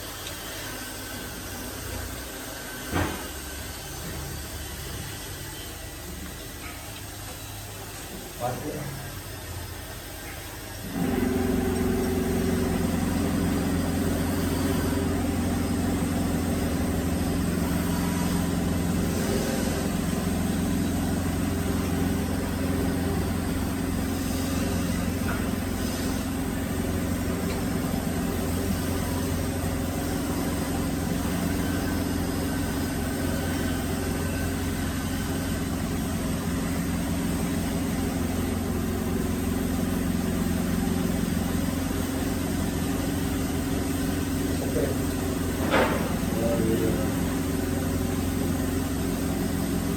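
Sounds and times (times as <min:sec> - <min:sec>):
drilling machine humming: 0:07.2 - 0:49.9.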